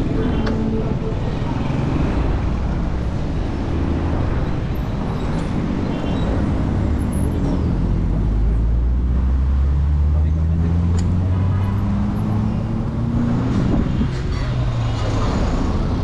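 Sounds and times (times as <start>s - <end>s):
bicycle road and wind noise: 0.0s - 16.0s
light traffic: 0.0s - 16.0s.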